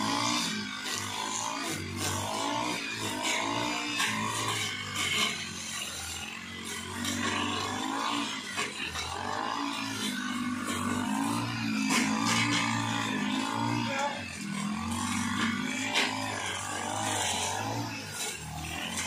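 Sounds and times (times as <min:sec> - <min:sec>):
brush cutter engine running: 0:00.0 - 0:19.0.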